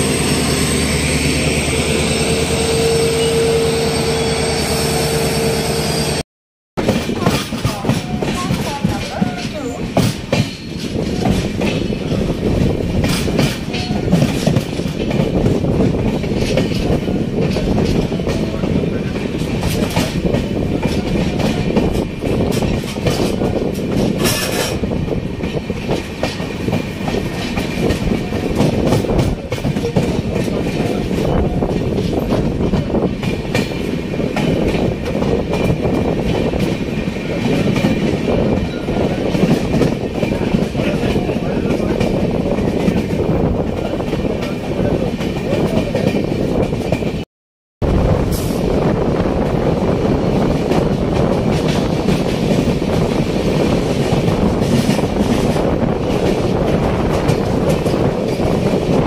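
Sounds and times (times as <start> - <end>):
train running rumble: 0.0 - 6.2, 6.8 - 59.0.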